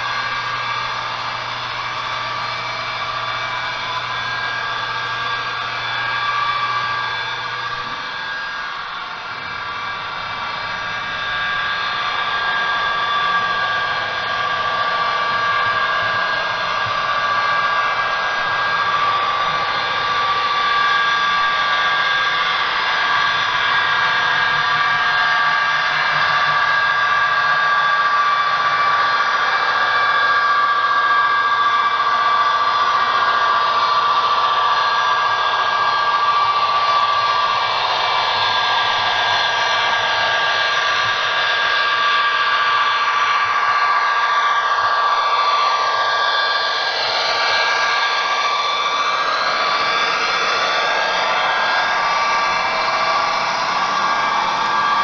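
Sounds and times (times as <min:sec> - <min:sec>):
model locomotive whirring hum: 0:00.0 - 0:55.0.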